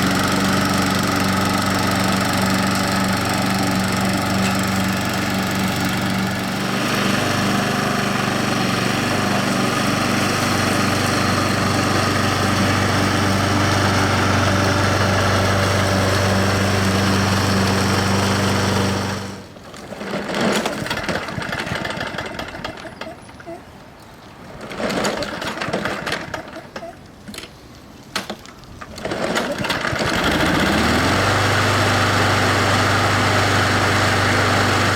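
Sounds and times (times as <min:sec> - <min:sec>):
lawn mower engine running: 0:00.0 - 0:23.0, 0:28.9 - 0:34.9.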